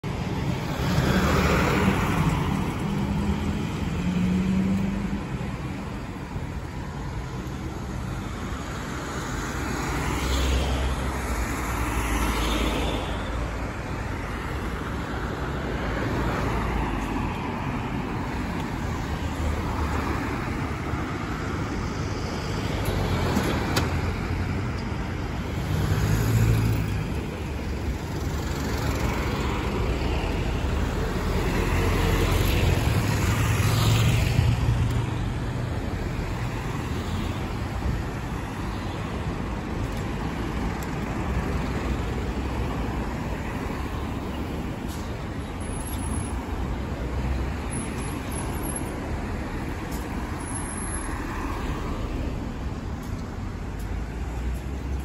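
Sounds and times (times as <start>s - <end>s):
cars passing close by: 0.0s - 55.0s.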